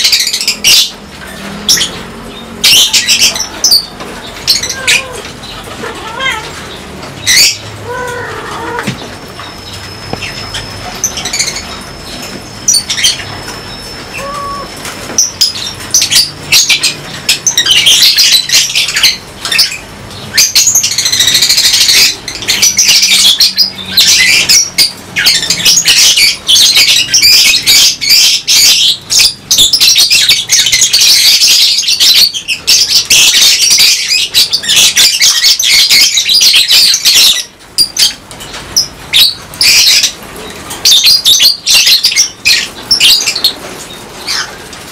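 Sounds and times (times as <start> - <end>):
lovebirds chattering: 0.0 - 44.9.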